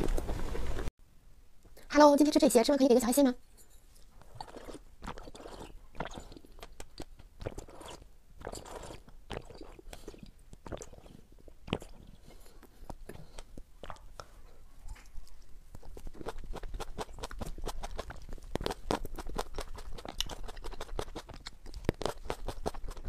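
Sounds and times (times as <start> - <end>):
chewing: 3.6 - 23.0.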